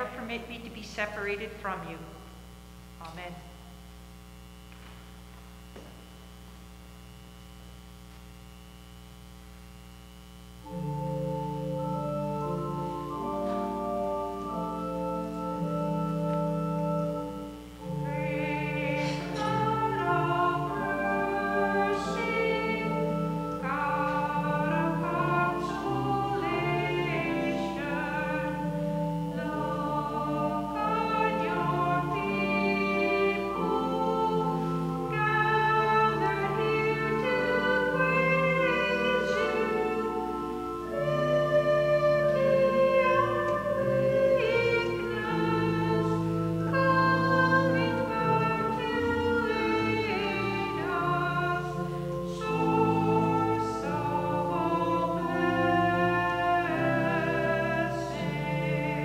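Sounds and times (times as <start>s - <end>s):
hymn singing: 0.0s - 3.9s, 10.6s - 59.0s
faint hum: 0.0s - 59.0s
held keyboard chords: 10.6s - 59.0s.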